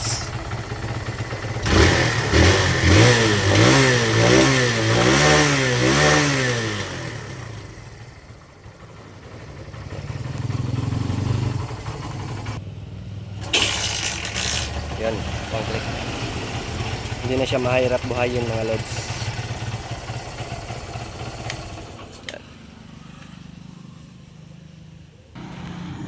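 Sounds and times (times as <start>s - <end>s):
motorcycle engine revving and idling: 0.0s - 26.0s.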